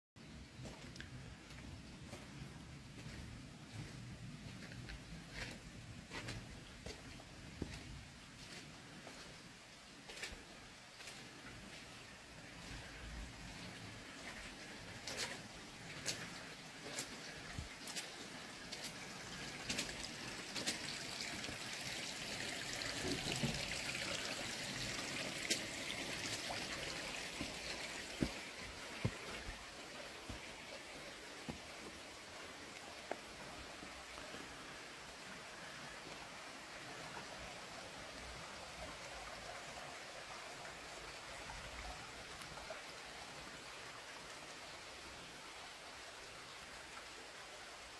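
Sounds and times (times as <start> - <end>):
steady hiss of water: 0.2 - 47.9
stream trickling: 0.5 - 47.9
faint ticks and patters: 0.6 - 39.4.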